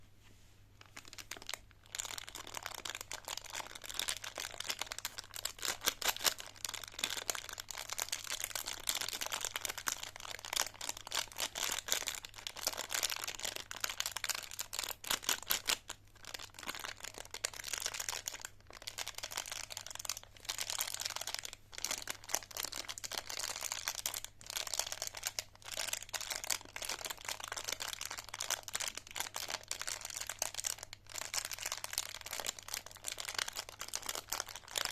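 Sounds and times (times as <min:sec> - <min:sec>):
faint steady hum: 0:00.0 - 0:34.9
plastic candy wrappers crinkling: 0:00.8 - 0:34.9.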